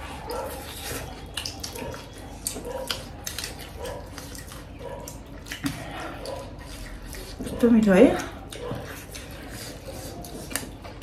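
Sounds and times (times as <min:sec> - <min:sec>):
people chewing and lip smacking: 0:00.0 - 0:11.0.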